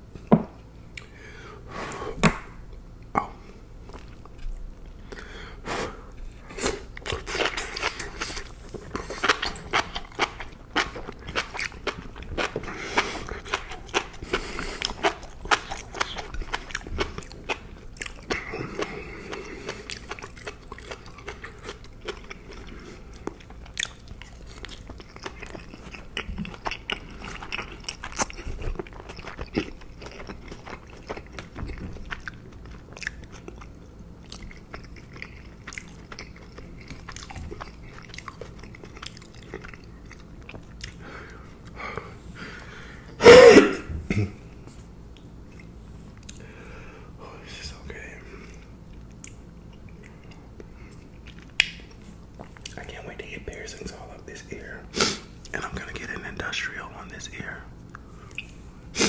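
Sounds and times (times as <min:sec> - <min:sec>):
person chewing food: 0:02.3 - 0:43.2, 0:44.1 - 0:46.8, 0:48.4 - 0:55.7, 0:57.7 - 0:59.0.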